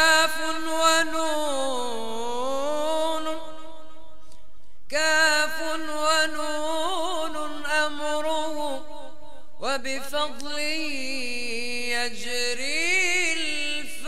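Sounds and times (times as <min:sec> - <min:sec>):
man chanting: 0:00.0 - 0:04.2, 0:04.8 - 0:14.0.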